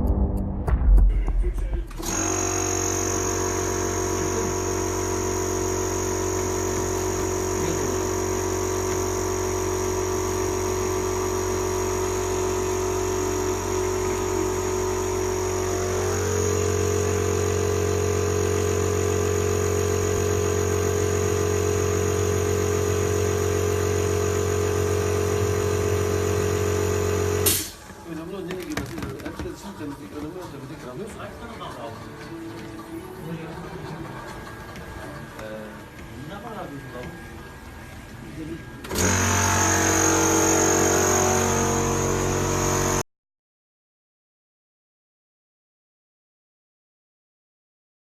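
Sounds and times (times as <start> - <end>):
electric pump humming and whining: 1.6 - 43.1.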